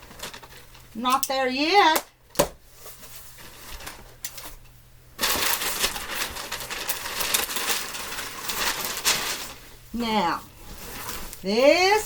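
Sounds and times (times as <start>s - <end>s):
packaging rustling and crinkling: 0.0s - 1.0s, 2.6s - 12.0s.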